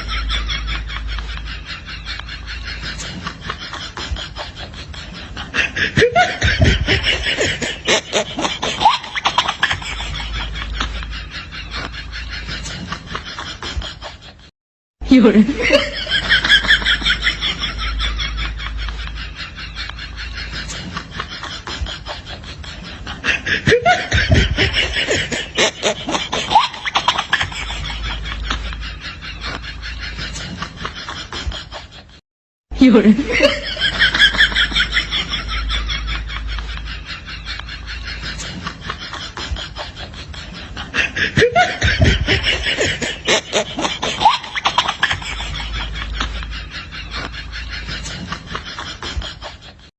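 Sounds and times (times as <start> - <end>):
person laughing: 0.0 - 32.2, 32.8 - 49.9.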